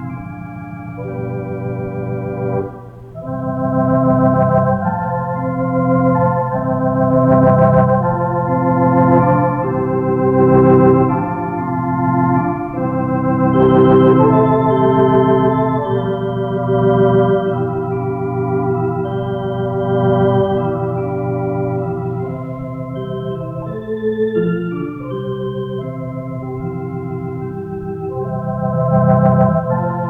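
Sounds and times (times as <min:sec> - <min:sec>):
organ playing: 0:00.0 - 0:30.0.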